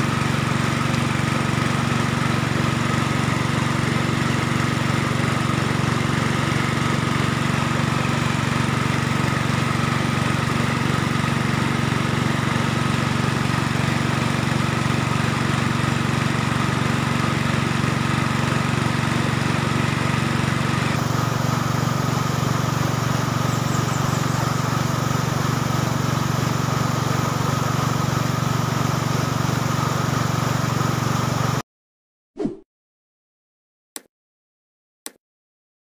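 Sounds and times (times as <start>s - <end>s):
small petrol engine running: 0.0s - 31.6s.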